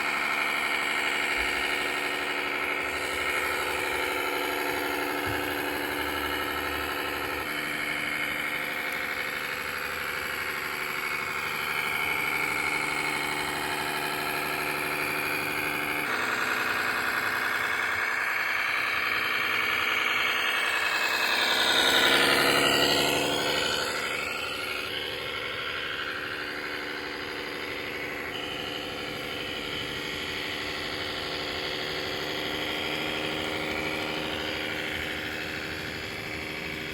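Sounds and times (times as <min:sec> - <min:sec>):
simulated diesel engine: 0:00.0 - 0:36.9.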